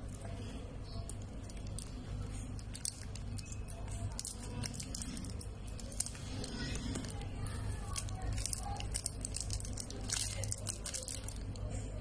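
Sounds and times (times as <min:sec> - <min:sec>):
low steady hum: 0:00.0 - 0:12.0
plastic wrapper crinkling: 0:00.9 - 0:11.7.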